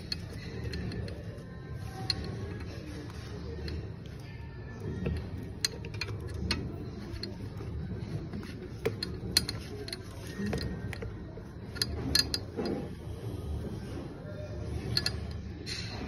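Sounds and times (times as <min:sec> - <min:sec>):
metal parts clicking and clinking: 0:00.0 - 0:13.1, 0:14.6 - 0:16.0.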